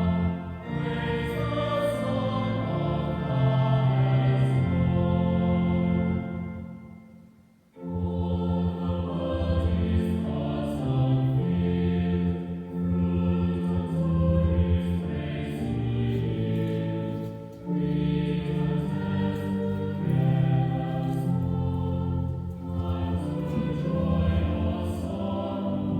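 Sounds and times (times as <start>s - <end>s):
choir singing long chords: 0.0s - 25.9s.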